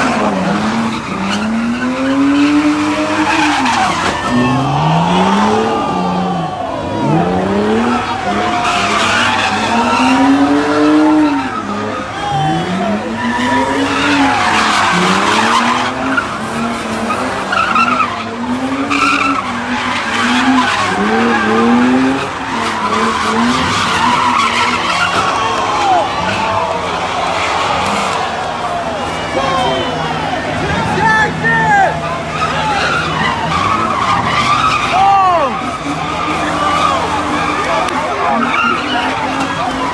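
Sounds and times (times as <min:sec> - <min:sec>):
car engine revving: 0:00.0 - 0:39.9
tires squealing on pavement: 0:00.0 - 0:39.9.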